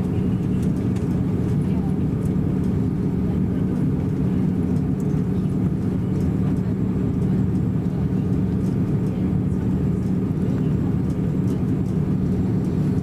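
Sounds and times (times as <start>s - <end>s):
airliner cabin rumble: 0.0s - 13.0s
jet engines humming: 0.0s - 13.0s.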